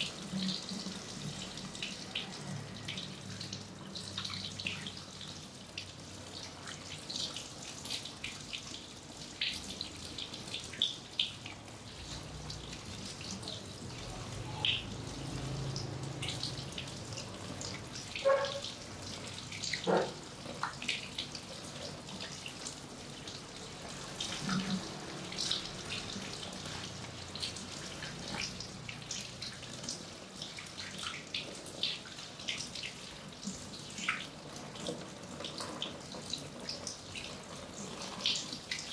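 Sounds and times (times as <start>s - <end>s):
small splashes and drips: 0.0s - 38.9s.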